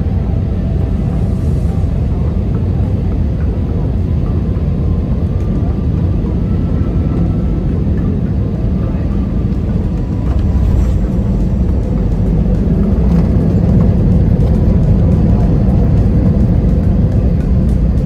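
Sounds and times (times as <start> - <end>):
jet cabin rumble: 0.0 - 18.0.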